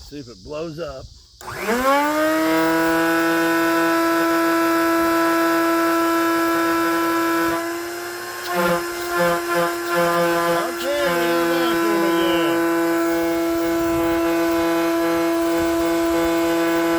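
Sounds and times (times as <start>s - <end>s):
blower fan motor whining: 1.4s - 16.9s.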